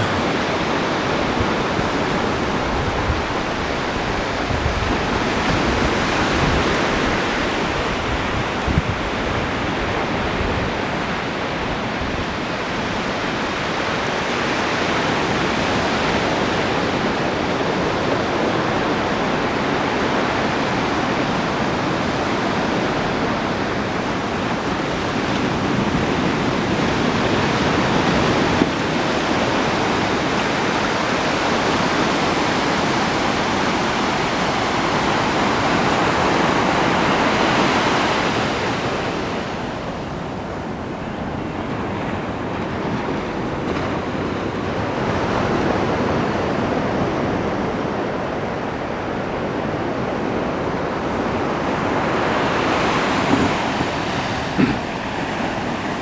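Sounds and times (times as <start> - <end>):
ocean surf washing on beach: 0.0 - 56.0.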